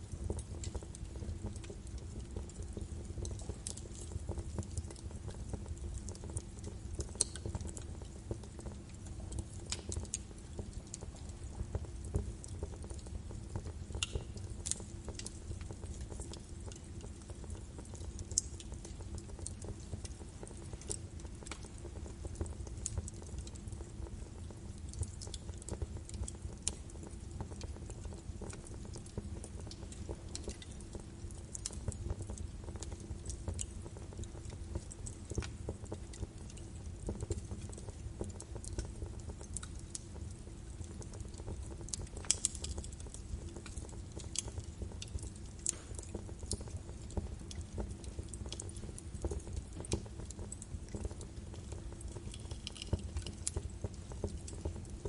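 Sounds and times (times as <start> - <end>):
fire crackles and pops: 0.0 - 55.0
fire flame rumble: 0.0 - 55.0.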